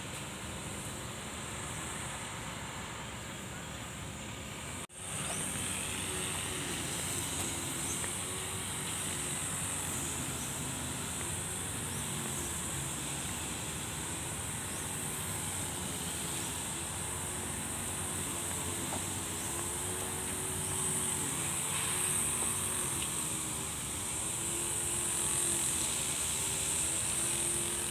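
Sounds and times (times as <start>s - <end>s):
low traffic rumble: 0.0s - 27.9s
high-pitched insect drone: 4.9s - 27.9s.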